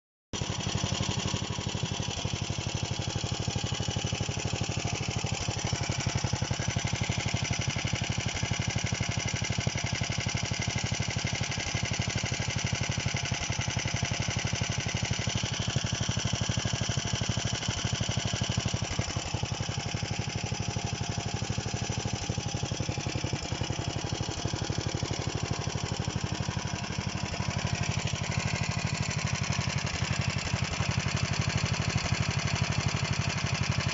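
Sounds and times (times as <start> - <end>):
small diesel engine idling: 0.4 - 33.9.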